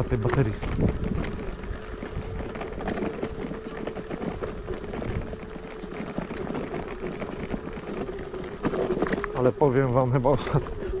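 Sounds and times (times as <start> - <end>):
electric scooter motor whine: 0.0 - 11.0
frame and wheels rattling: 0.0 - 11.0.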